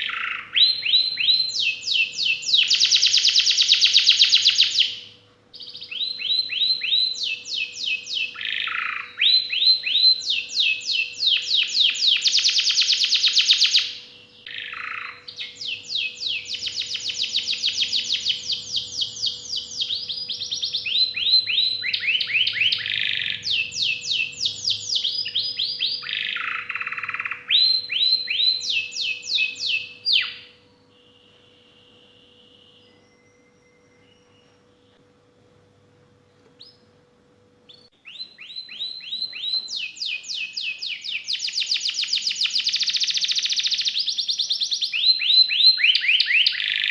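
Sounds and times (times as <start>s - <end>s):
canary singing trills: 0.0s - 35.1s, 37.7s - 46.9s.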